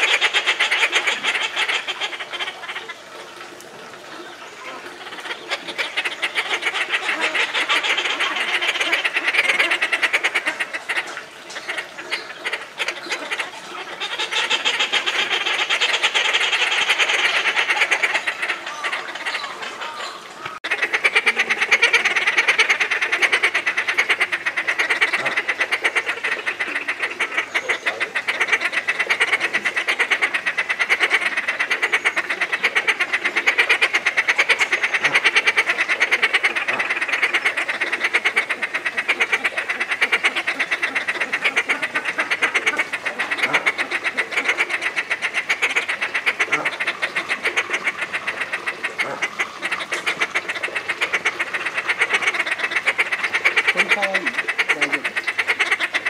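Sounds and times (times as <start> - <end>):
terns chattering: 0.0 - 56.0.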